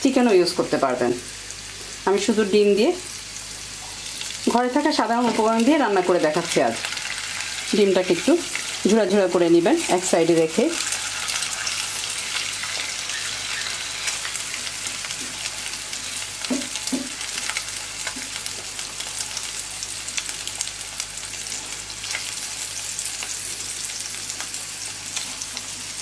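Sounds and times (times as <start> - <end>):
egg sizzling in oil: 1.2 - 26.0.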